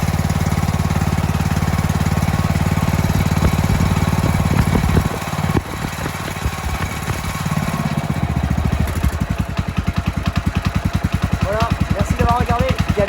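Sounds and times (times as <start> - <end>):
mower engine running: 0.0 - 13.0.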